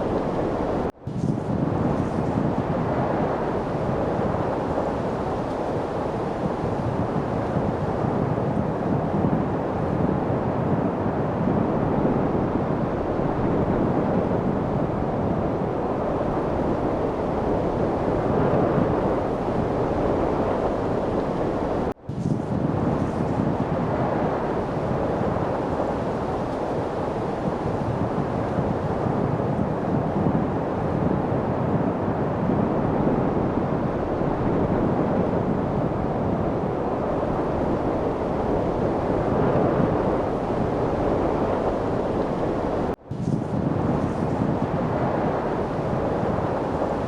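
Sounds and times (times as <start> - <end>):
light wind blowing: 0.0 - 47.0.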